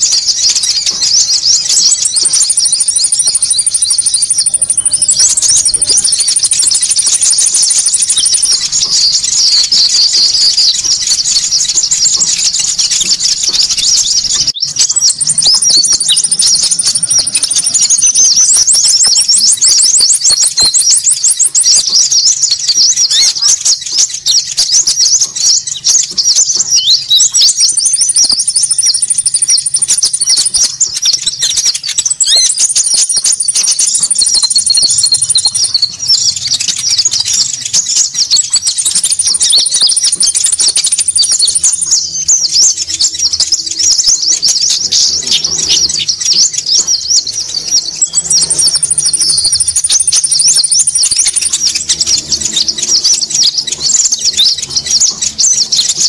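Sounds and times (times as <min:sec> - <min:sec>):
chorus of high bird chirps: 0:00.0 - 0:56.0.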